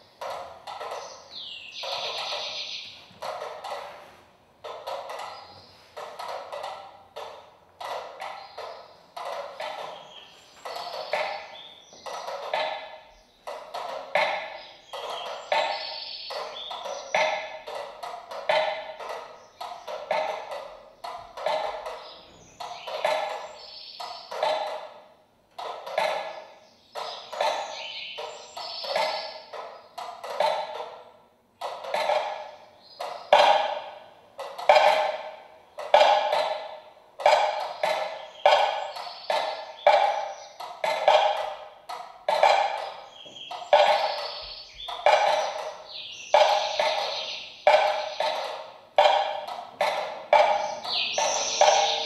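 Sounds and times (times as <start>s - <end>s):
metronomes ticking: 0.0s - 3.9s, 4.6s - 52.0s.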